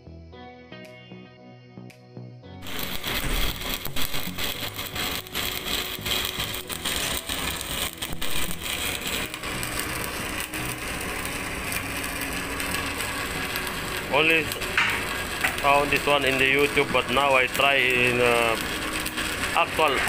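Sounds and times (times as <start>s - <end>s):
welding arc crackling and sizzling: 2.6s - 20.0s.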